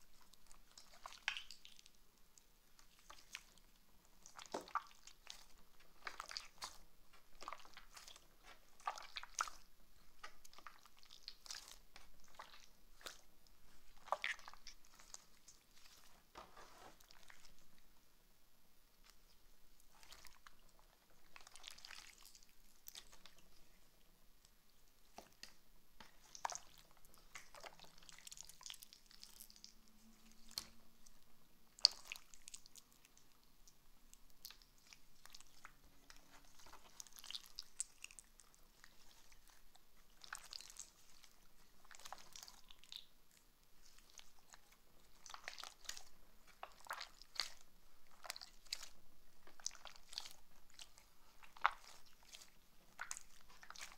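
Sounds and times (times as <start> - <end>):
slime squeezed and kneaded: 0.1 - 1.9, 2.8 - 17.6, 19.0 - 23.4, 25.0 - 31.1, 31.8 - 33.4, 34.3 - 43.1, 43.8 - 53.9.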